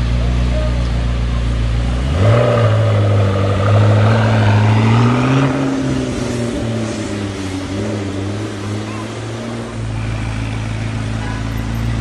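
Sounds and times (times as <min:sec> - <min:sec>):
car engine pulling away: 0:00.0 - 0:12.0.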